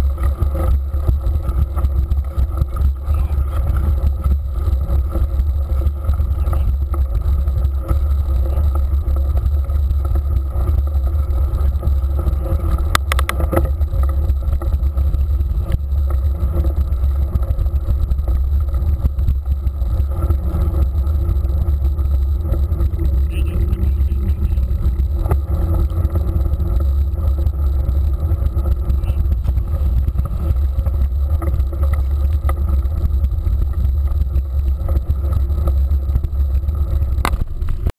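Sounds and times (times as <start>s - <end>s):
bike rolling noise: 0.0s - 37.9s.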